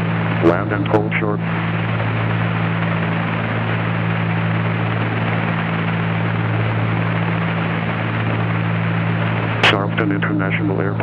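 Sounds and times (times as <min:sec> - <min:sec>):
aircraft piston engines droning: 0:00.0 - 0:11.0.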